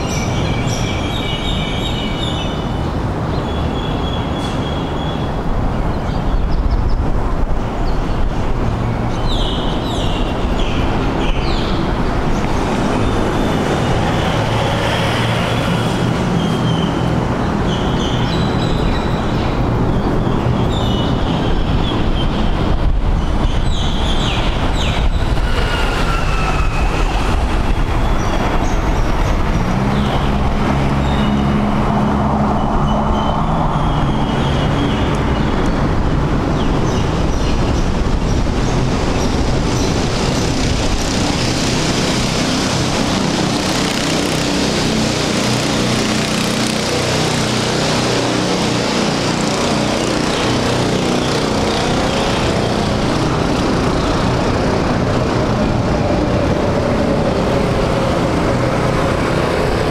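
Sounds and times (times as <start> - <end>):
traffic rumbling: 0.0 - 59.9.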